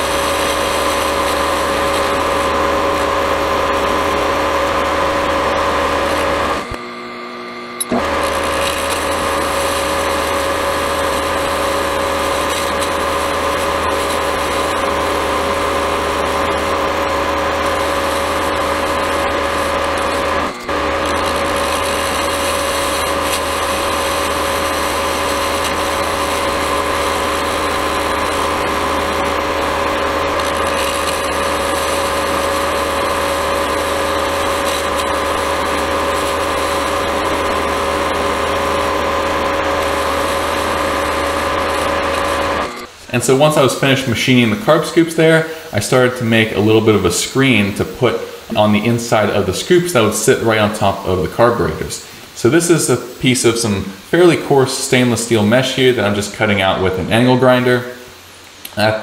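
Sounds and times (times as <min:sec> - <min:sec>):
milling machine motor hum: 0:00.0 - 0:51.1.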